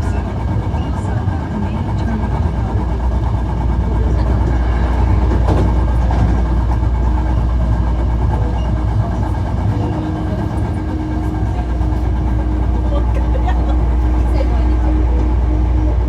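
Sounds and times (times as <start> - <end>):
steady hum: 0.0 - 16.0
train wheels rumbling on rails: 0.0 - 16.0.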